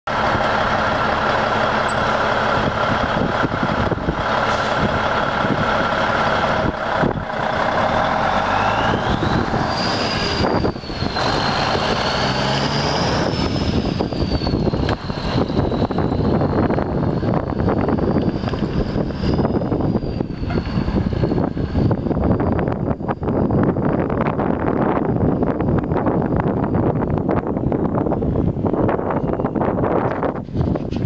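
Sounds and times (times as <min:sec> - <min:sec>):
diesel truck engine running: 0:00.1 - 0:31.0
high whine: 0:00.1 - 0:31.0.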